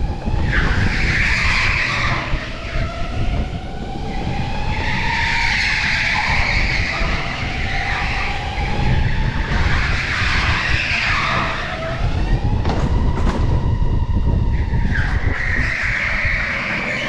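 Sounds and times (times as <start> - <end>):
electric go-kart motor whining: 0.0 - 17.0.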